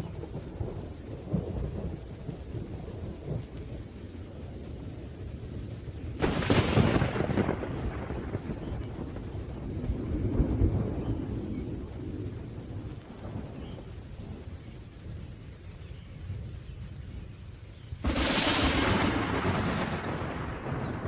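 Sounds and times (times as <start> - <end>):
rolling thunder: 0.0 - 16.5, 18.0 - 21.0
steady rain: 0.0 - 21.0.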